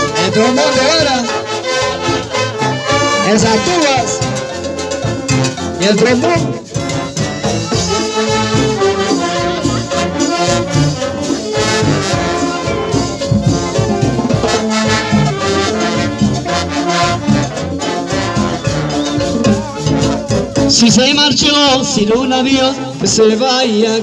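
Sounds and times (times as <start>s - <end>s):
brass band playing: 0.0s - 24.0s.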